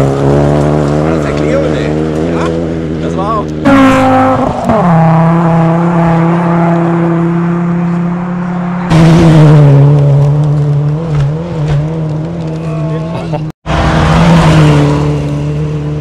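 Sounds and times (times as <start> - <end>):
rally car engines at full throttle: 0.0 - 16.0.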